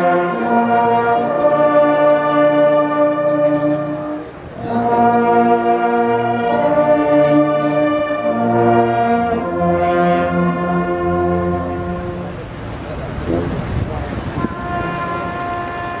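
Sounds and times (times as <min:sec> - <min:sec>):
brass band playing chords: 0:00.0 - 0:16.0.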